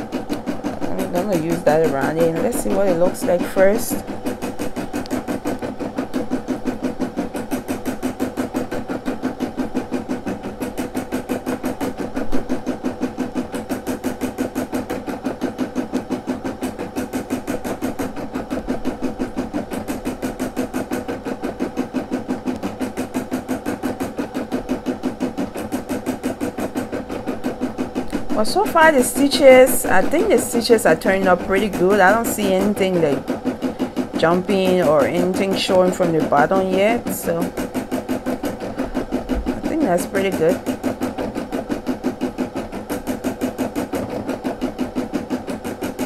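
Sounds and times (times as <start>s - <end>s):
embroidery machine stitching: 0.0s - 46.0s.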